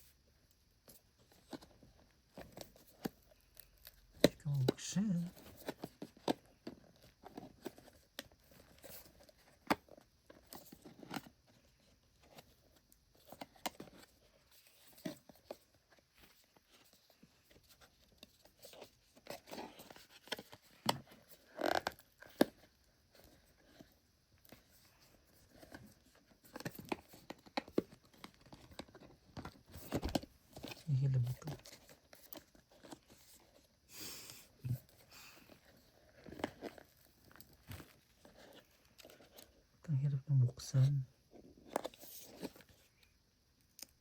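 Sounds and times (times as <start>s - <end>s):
packaging rustling and scraping: 5.3s - 33.8s, 34.5s - 39.6s, 41.3s - 43.1s.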